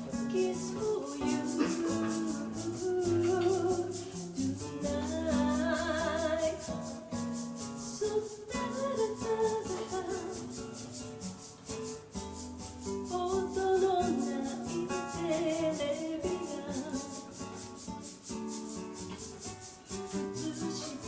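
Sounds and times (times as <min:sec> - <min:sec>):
shaker rhythm: 0:00.0 - 0:21.0.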